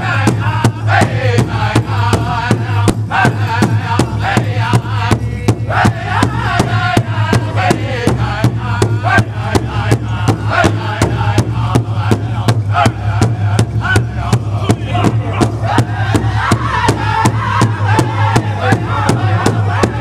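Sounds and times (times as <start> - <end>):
group singing: 0.0 - 20.0
large drum beating: 0.0 - 20.0.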